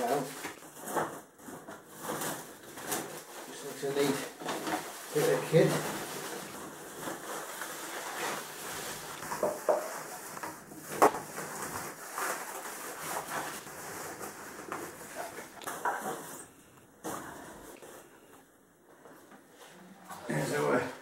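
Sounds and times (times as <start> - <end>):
packaging rustling: 0.0 - 18.3.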